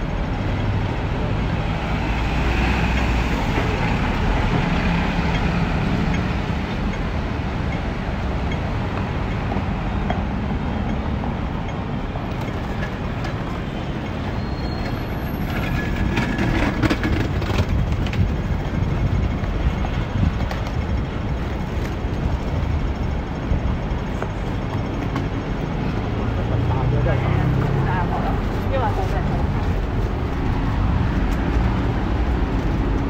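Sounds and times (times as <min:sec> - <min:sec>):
passing vehicles rumbling: 0:00.0 - 0:33.0.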